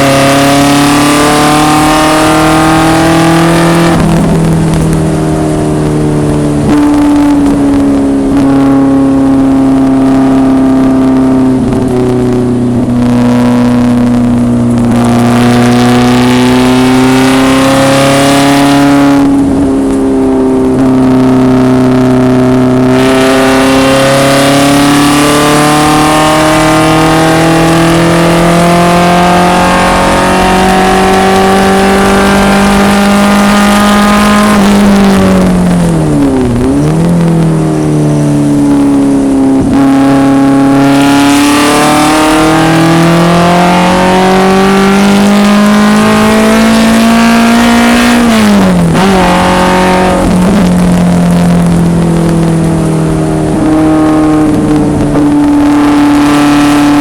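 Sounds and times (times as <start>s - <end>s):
engine blipped downshifts: 0.0s - 57.0s
racecar engine at hard throttle: 0.0s - 57.0s.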